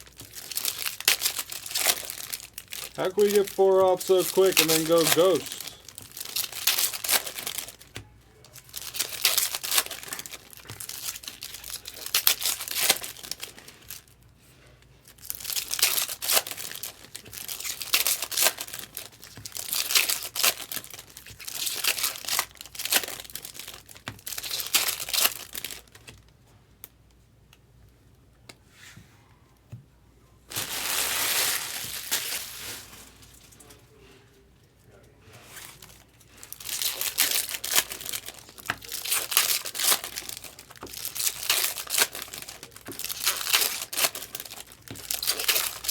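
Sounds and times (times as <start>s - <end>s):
foil wrappers tearing and crinkling: 0.0s - 7.9s, 8.6s - 14.2s, 15.1s - 26.2s, 30.5s - 33.7s, 35.4s - 45.9s.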